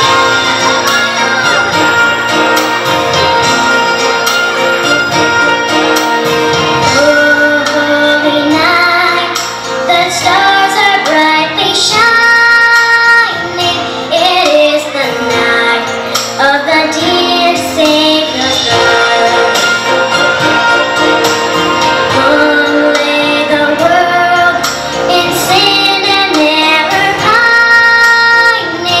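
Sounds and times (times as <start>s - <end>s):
instrumental accompaniment: 0.0s - 29.0s.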